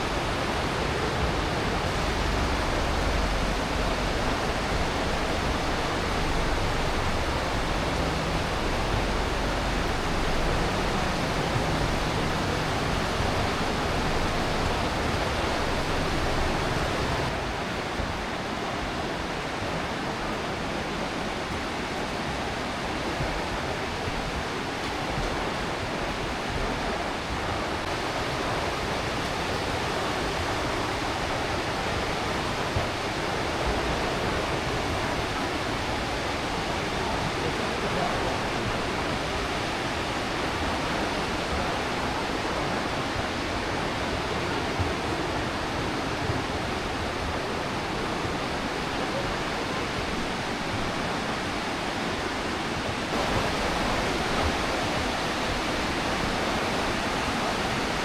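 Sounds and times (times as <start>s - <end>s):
fast river water rushing: 0.0s - 58.0s.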